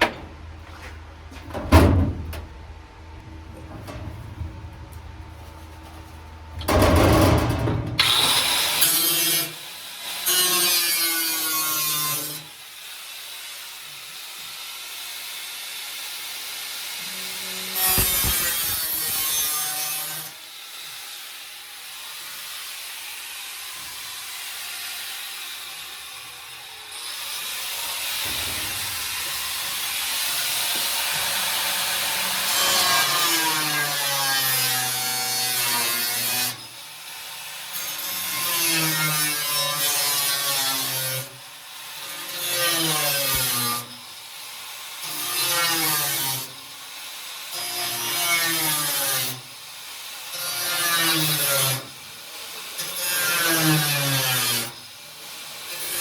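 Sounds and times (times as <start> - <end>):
power tool cutting sheet metal: 6.6 - 56.0.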